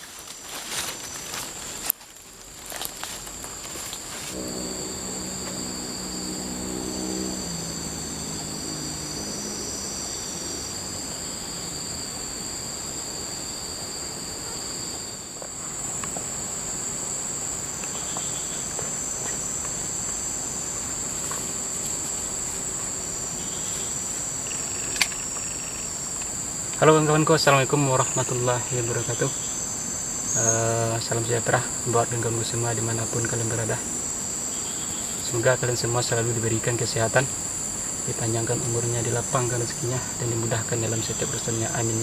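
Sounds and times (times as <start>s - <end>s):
insects trilling: 0.0s - 42.0s
low humming note: 0.0s - 42.0s.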